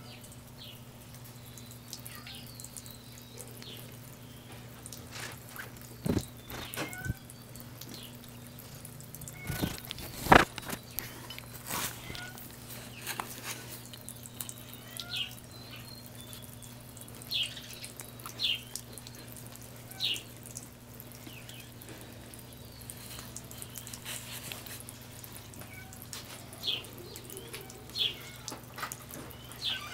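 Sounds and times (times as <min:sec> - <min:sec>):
water spraying into a tub: 0:03.7 - 0:29.9.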